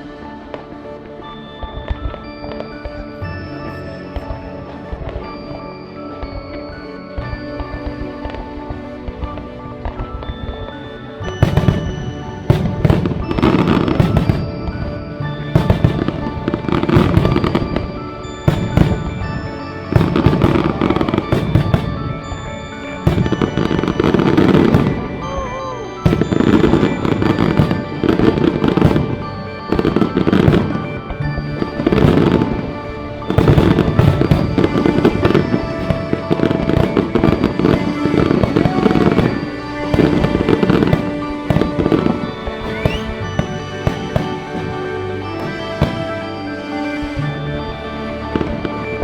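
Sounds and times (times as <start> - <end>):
music playing: 0.0 - 49.0
fireworks bangs and crackling: 0.2 - 49.0.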